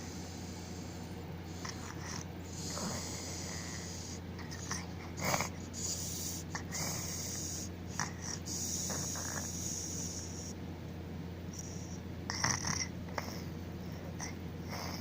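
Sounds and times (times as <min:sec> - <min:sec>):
baby snoring: 0:00.5 - 0:10.6, 0:11.6 - 0:15.0.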